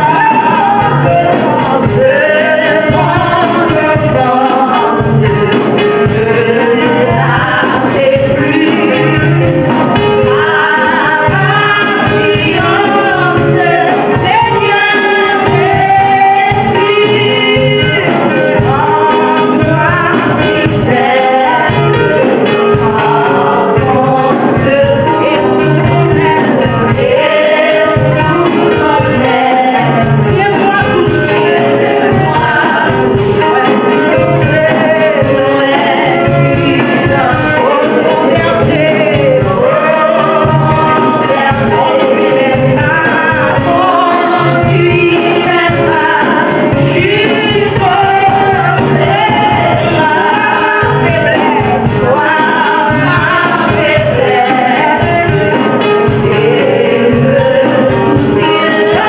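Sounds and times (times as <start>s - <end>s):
gospel music with steady beat: 0.0s - 59.0s
woman singing into a microphone: 0.0s - 59.0s.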